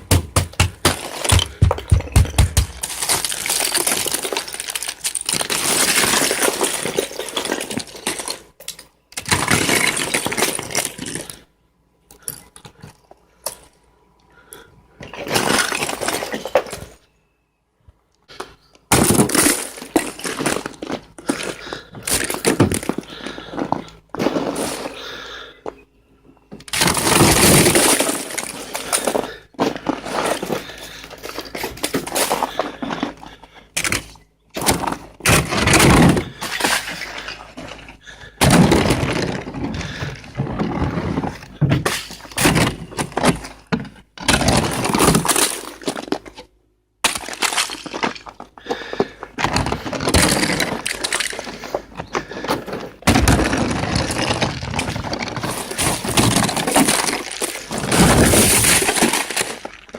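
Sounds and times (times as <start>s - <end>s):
ice scraped and breaking off car: 0.5s - 8.6s, 9.2s - 11.5s, 15.1s - 17.0s, 18.9s - 25.5s, 26.7s - 59.9s.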